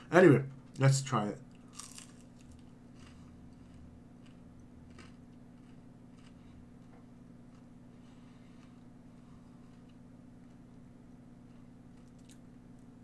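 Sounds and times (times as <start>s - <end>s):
low hum: 0.0s - 13.0s
chewing crispy food: 1.5s - 13.0s.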